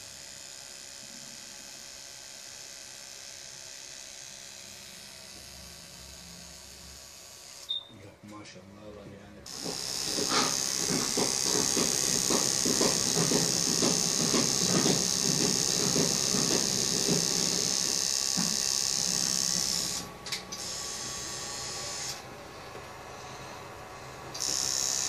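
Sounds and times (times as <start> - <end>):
tattoo machine high-pitched hiss: 0.0 - 7.8, 9.5 - 22.2, 23.2 - 25.0.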